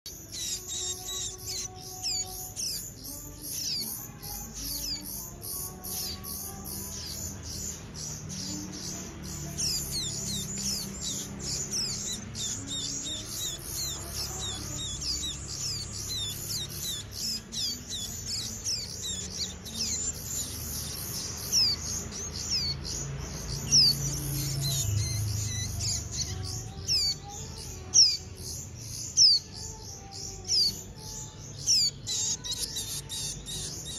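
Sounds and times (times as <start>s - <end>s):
nestlings chirping: 0.0s - 33.9s
soft background music: 0.1s - 33.9s.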